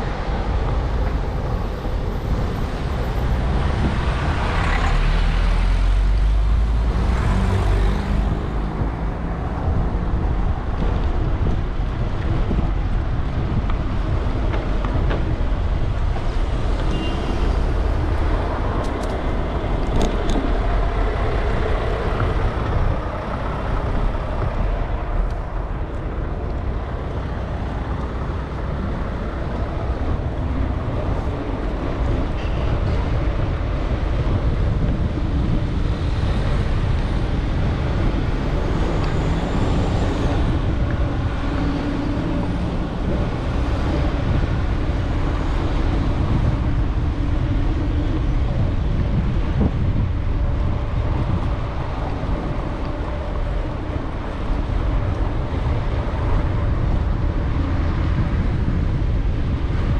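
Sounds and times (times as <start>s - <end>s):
city street traffic: 0.0s - 59.9s
passing vehicle engine hum: 0.0s - 59.9s
wind rumble on microphone: 0.0s - 59.9s.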